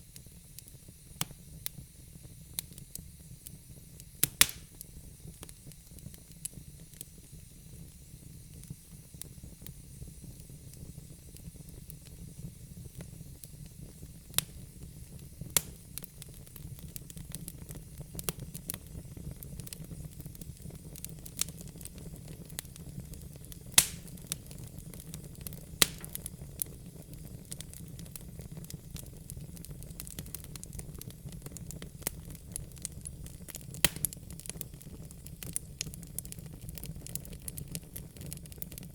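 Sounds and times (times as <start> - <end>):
wood fire crackling and popping: 0.0 - 38.9
fire flames rumbling: 4.2 - 38.9.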